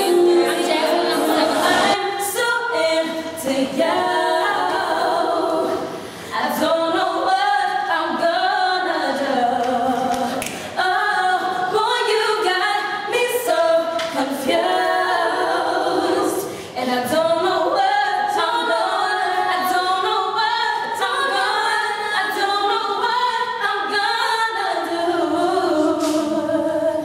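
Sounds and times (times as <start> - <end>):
girls singing in harmony: 0.0 - 27.0.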